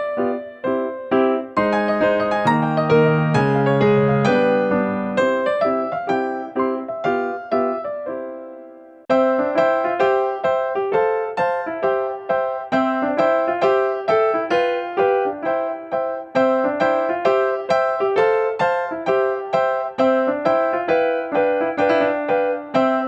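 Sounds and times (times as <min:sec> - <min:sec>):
piano-like keyboard notes: 0:00.0 - 0:23.0.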